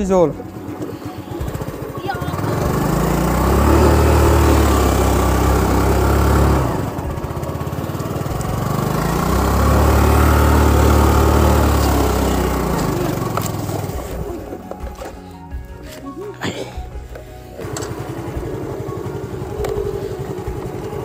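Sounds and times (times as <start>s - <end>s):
scooter engine revving: 0.0s - 16.0s, 16.8s - 21.0s.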